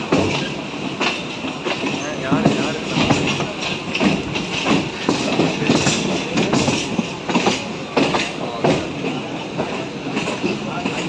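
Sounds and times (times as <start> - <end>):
steady hiss of train running: 0.0 - 11.0
wheels knocking over rail joints: 0.0 - 11.0.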